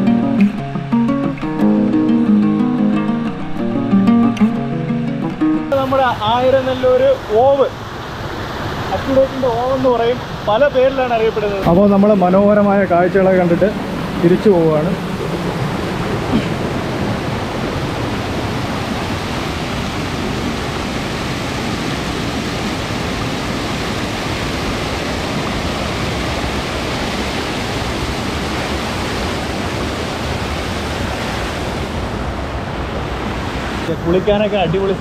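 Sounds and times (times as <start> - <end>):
water rushing over weir: 5.4 - 35.0.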